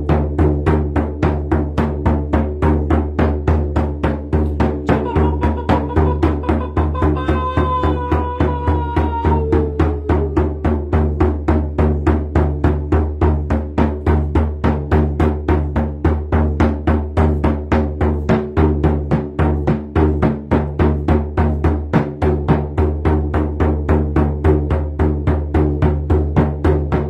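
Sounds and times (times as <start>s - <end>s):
hand drum beating: 0.0s - 27.0s.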